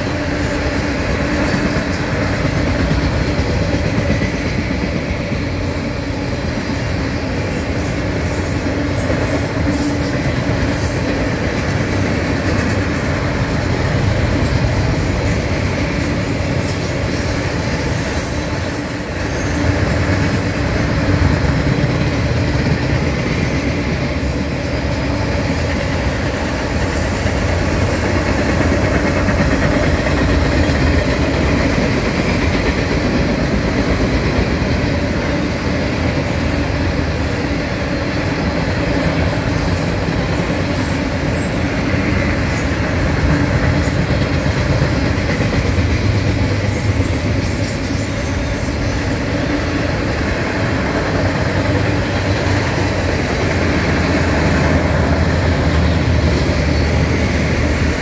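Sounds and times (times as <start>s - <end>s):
train wheels on rails: 0.0s - 58.0s
wheels clickety-clack: 0.0s - 58.0s.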